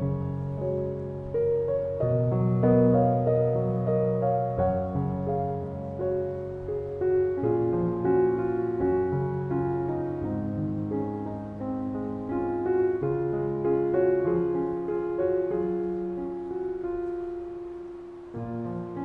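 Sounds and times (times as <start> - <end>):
calm classical piano music: 0.0 - 19.0.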